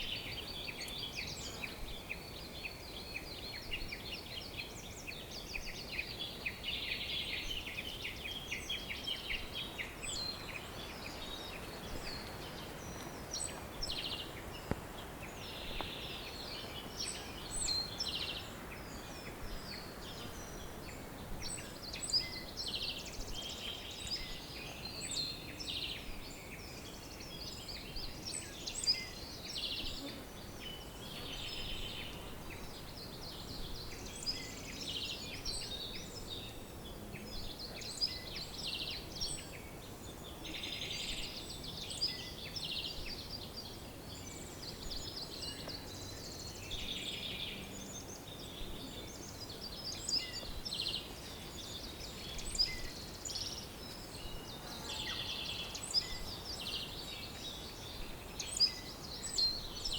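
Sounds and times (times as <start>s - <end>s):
birds chirping and singing: 0.0s - 59.9s
faint outdoor hiss: 0.0s - 59.9s.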